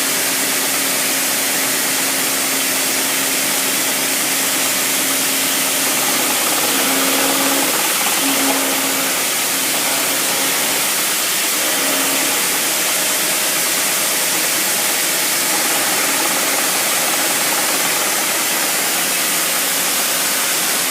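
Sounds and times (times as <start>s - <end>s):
machine tool cutting steel: 2.6s - 20.9s.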